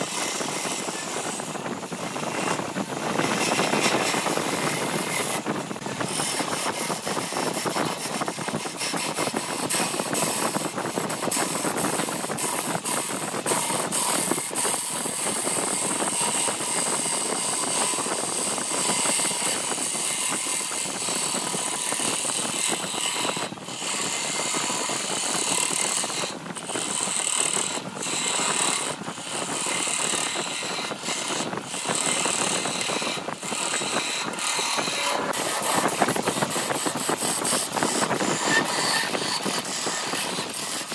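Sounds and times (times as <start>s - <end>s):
lathe tool scraping wood: 0.0s - 40.9s.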